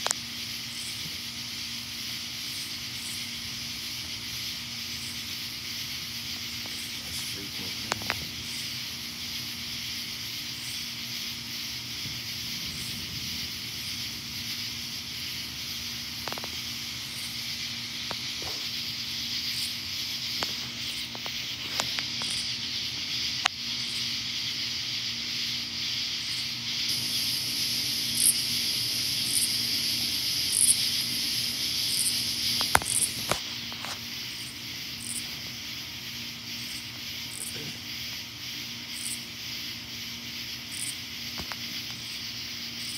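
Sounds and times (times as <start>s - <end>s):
insects buzzing: 0.0s - 42.9s
low steady hum: 0.0s - 42.9s.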